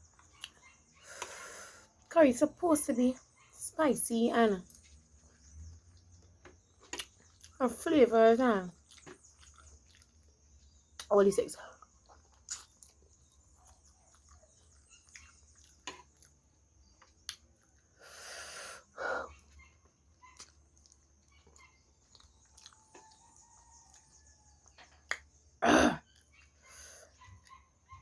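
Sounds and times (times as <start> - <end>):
soft chewing and mouth clicks: 0.0 - 2.2, 4.6 - 7.6, 8.6 - 28.0.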